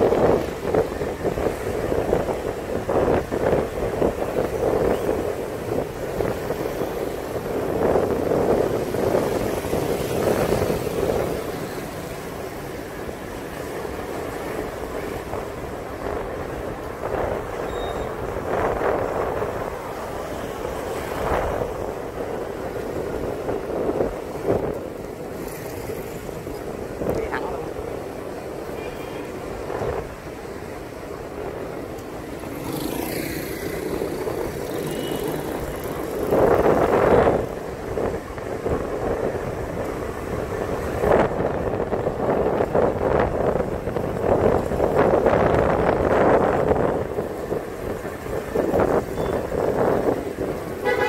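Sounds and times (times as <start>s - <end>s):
motorbike and car engines humming: 0.0s - 51.0s
wind buffeting microphone: 0.0s - 51.0s.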